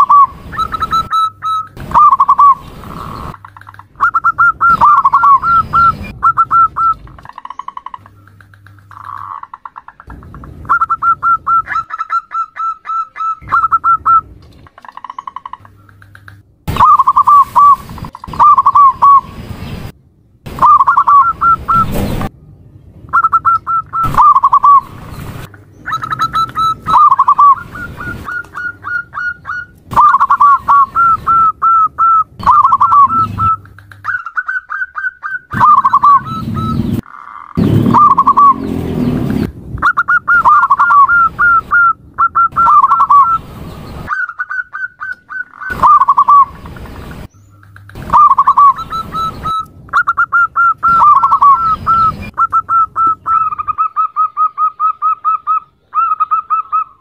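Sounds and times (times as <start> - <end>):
dove cooing: 0.0 - 7.2, 7.9 - 19.2, 20.6 - 21.9, 23.2 - 24.9, 25.8 - 39.2, 39.8 - 43.4, 44.0 - 46.5, 47.6 - 57.0.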